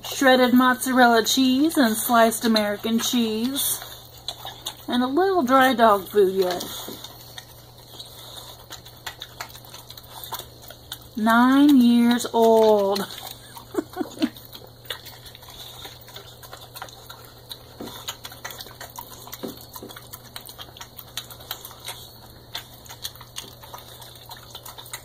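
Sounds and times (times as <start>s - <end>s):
dog chewing and lip-smacking: 0.0s - 25.0s.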